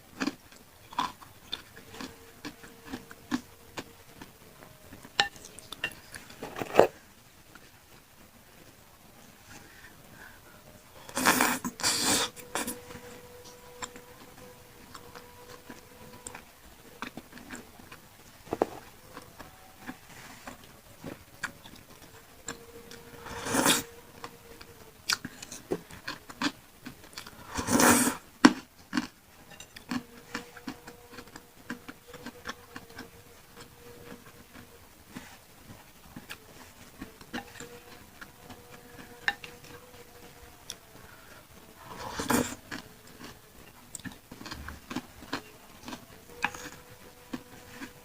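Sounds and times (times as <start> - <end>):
loud noisy eating sounds: 0.0 - 7.2, 9.4 - 48.0.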